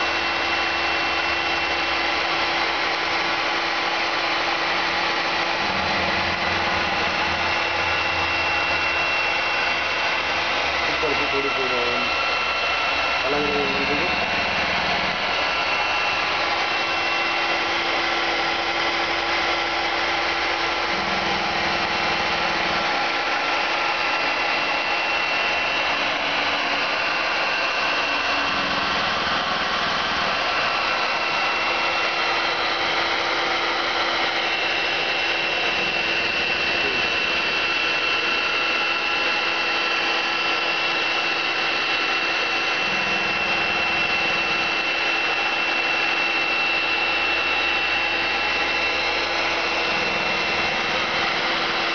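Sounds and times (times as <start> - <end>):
small electric motor whining: 0.0 - 51.9.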